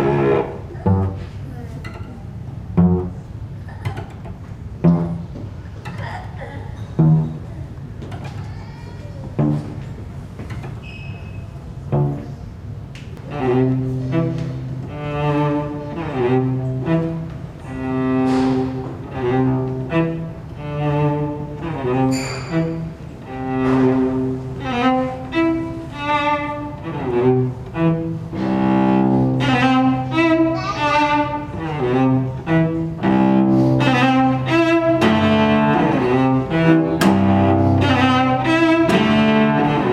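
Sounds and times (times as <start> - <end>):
low string instrument playing: 0.0 - 6.2, 6.8 - 8.2, 9.3 - 10.7, 11.6 - 39.9.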